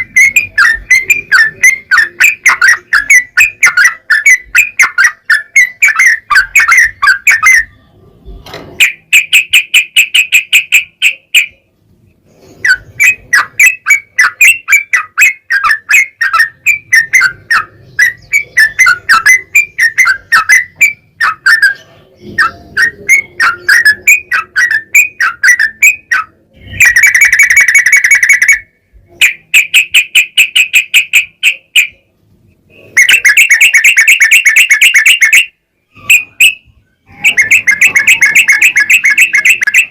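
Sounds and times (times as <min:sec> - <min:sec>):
bird trills: 0:00.0 - 0:07.8, 0:08.8 - 0:11.7, 0:12.3 - 0:32.1, 0:32.7 - 0:39.9
bird chattering song: 0:00.0 - 0:39.9.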